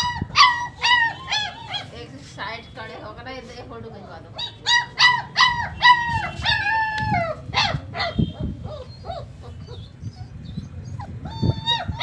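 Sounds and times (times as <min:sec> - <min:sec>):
puppies whining: 0:00.0 - 0:02.2, 0:04.4 - 0:12.0.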